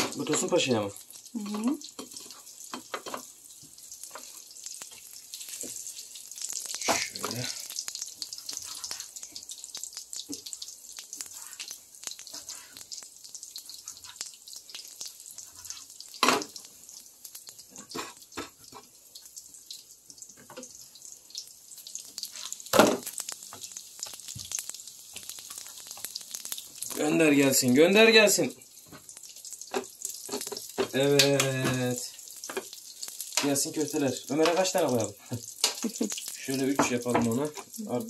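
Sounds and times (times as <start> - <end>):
meatballs sizzling on a grill: 0.0 - 38.0.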